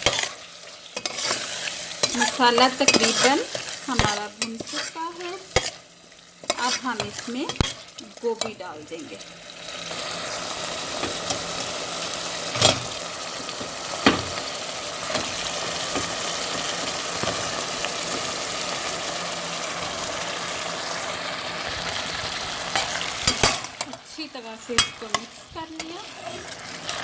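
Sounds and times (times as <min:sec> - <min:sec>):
spices sizzling in hot oil: 0:00.0 - 0:27.0.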